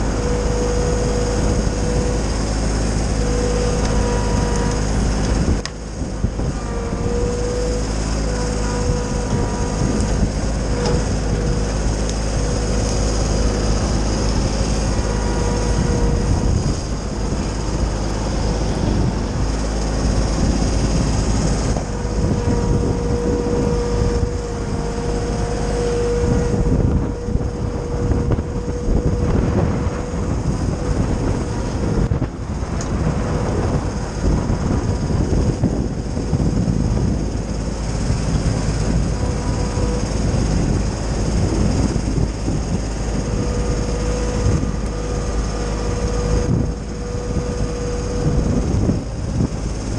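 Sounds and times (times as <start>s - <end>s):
tractor diesel engine running: 0.0s - 49.9s
wood chipper grinding branches: 0.0s - 49.9s.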